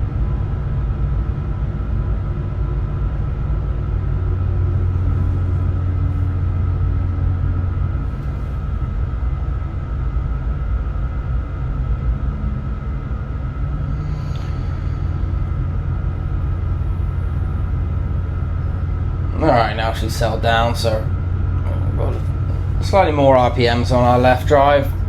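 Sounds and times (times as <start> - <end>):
diesel engines humming: 0.0 - 25.0
high engine whine: 0.0 - 25.0.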